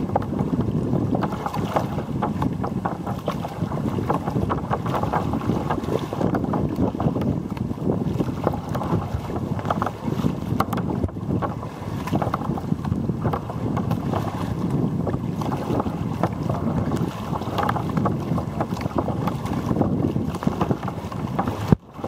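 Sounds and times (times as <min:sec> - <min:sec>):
water splashing against kayak hull: 0:00.0 - 0:22.0
wind buffeting microphone: 0:00.0 - 0:22.0.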